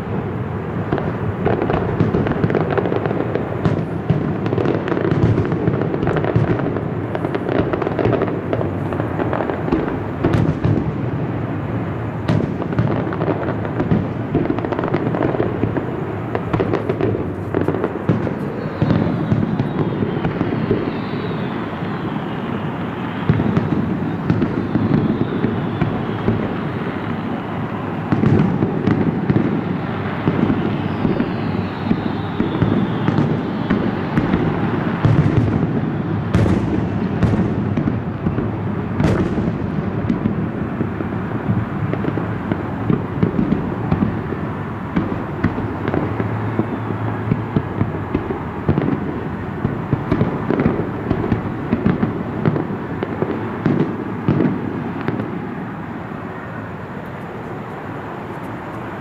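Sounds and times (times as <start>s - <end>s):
fireworks bursting: 0.0s - 59.0s
sharp loud fireworks cracks: 0.0s - 59.0s.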